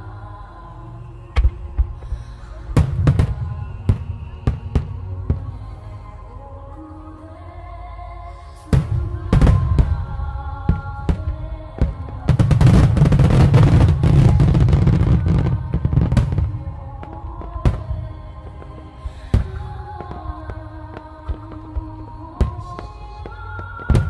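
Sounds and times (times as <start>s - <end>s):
music playing: 0.0s - 24.0s
fireworks bursting with bangs: 1.3s - 5.6s, 8.7s - 24.0s.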